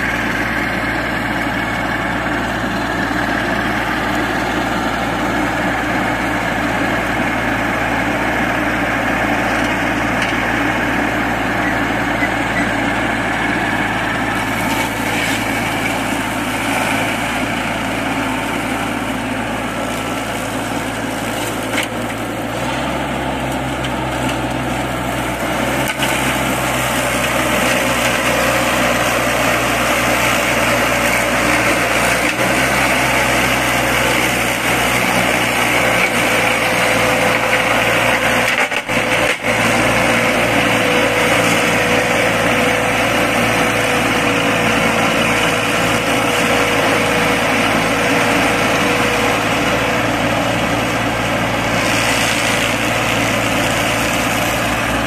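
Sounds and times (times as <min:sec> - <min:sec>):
mower deck cutting grass: 0:00.0 - 0:55.0
ride-on mower running: 0:00.0 - 0:55.0.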